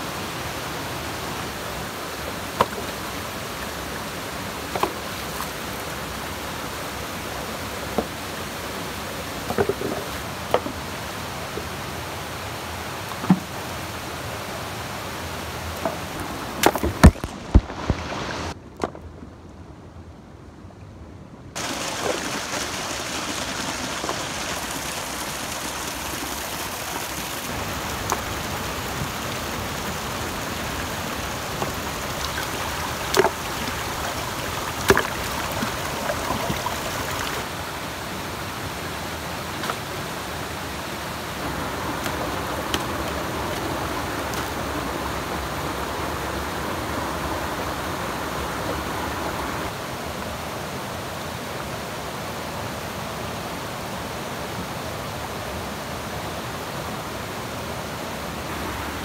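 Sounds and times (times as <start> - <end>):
stream running over stones: 0.0 - 18.6, 21.6 - 59.0.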